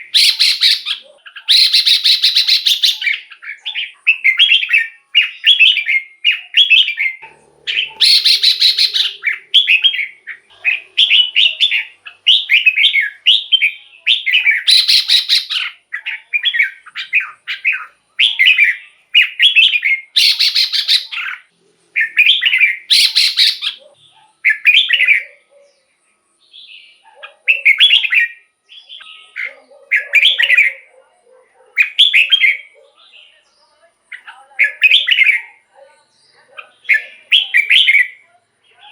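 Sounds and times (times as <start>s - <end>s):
bird singing whistled phrases: 0.0s - 25.4s, 26.5s - 30.8s, 31.8s - 32.8s, 34.1s - 35.6s, 36.8s - 38.2s.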